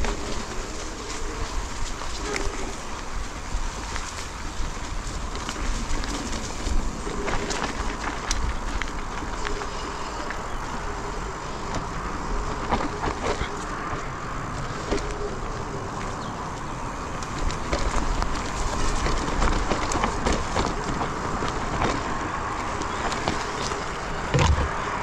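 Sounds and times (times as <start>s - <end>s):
bike clicking and rattling: 0.0s - 25.0s
bike rolling on dirt trail: 0.0s - 25.0s.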